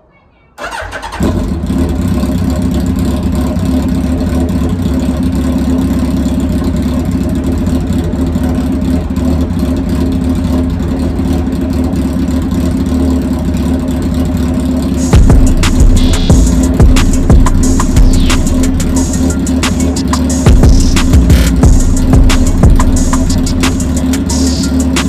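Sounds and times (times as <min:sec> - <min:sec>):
motorcycle engine running: 0:00.6 - 0:25.0.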